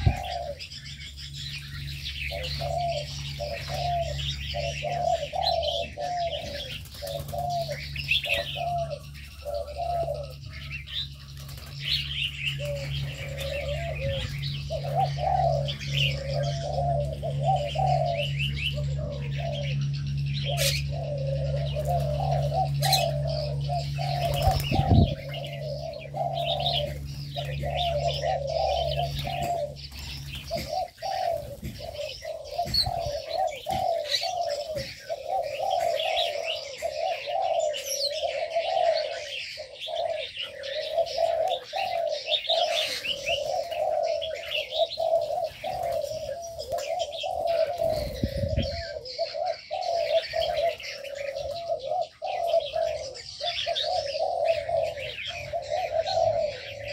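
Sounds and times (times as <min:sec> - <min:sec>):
doves cooing: 0:00.0 - 0:56.9
small birds chirping: 0:00.0 - 0:56.9.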